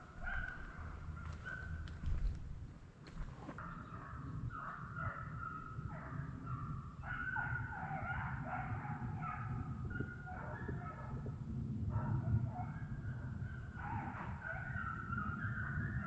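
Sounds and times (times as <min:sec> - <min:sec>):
hounds baying: 0:00.0 - 0:02.1, 0:03.6 - 0:11.3, 0:11.9 - 0:16.0.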